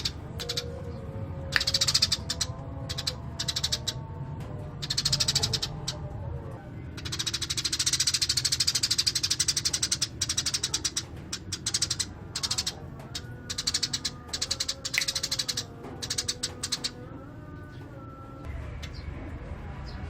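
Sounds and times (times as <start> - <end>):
sparrow chirping: 0.0 - 4.0, 4.8 - 6.1, 7.0 - 18.0.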